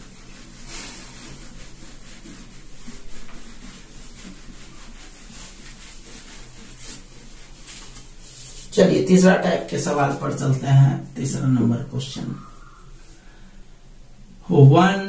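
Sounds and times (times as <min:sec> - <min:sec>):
hand rubbing on whiteboard: 0:00.0 - 0:13.2.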